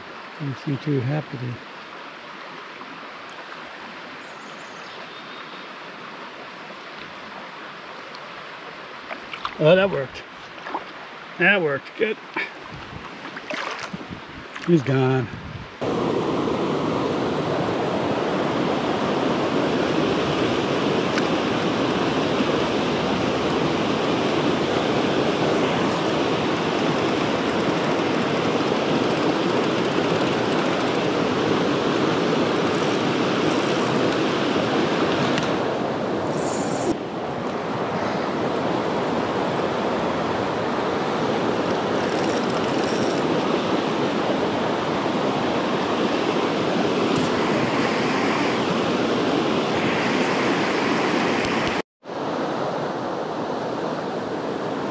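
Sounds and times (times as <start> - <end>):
creek water rushing over rapids: 0.0 - 4.3, 5.0 - 15.2, 15.8 - 54.9.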